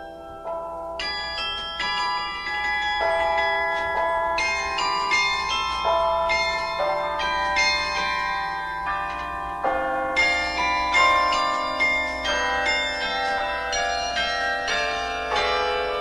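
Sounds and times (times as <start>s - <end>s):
carillon bells playing a melody: 0.0s - 16.0s.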